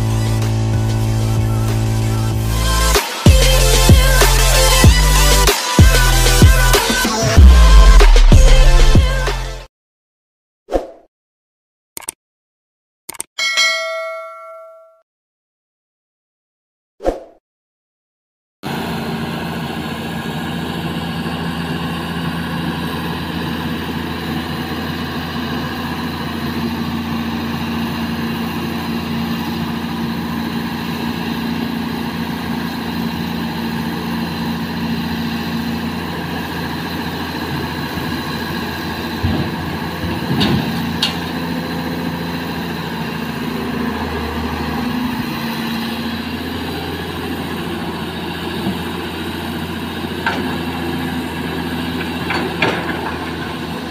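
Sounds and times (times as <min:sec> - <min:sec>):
excavator diesel engine running: 0:00.0 - 0:09.0, 0:18.7 - 0:53.9.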